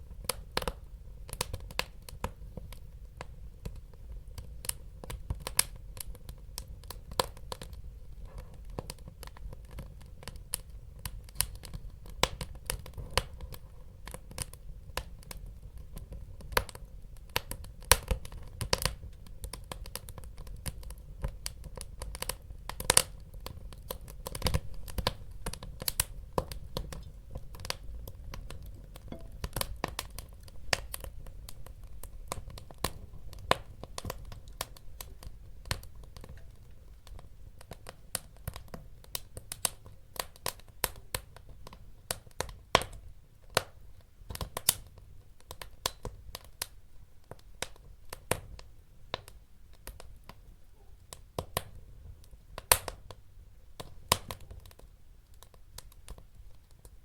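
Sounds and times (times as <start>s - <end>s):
burning logs crackling and popping: 0.0s - 57.0s
low rumble of fire: 0.0s - 57.0s.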